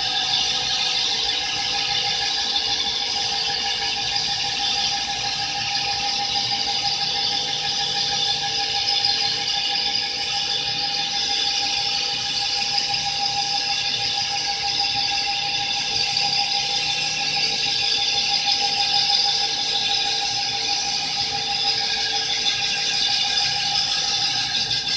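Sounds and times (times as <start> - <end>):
lathe tool squealing on metal: 0.0 - 24.9.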